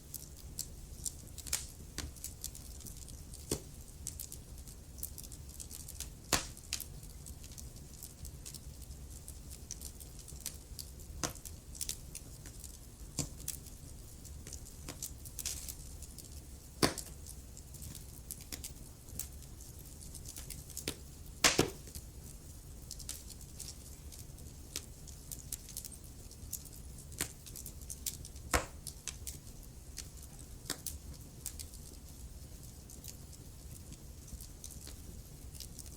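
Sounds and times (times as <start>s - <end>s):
wood fire crackling and popping: 0.0s - 35.9s
fire rumbling: 0.1s - 35.9s.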